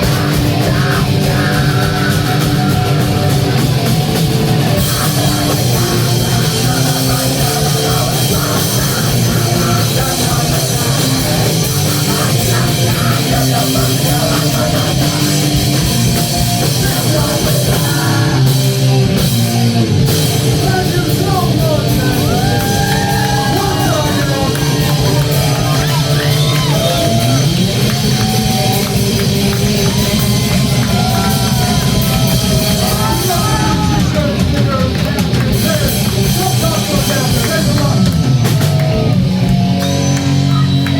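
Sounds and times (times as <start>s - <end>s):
rock band playing heavy: 0.0s - 40.9s.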